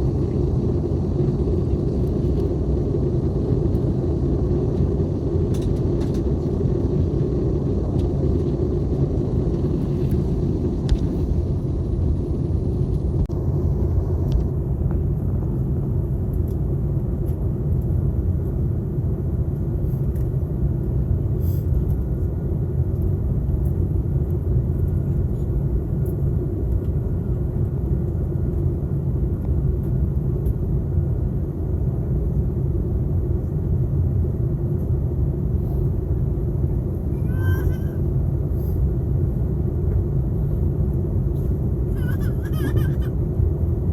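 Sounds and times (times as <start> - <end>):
airliner cabin rumble: 0.0 - 43.9.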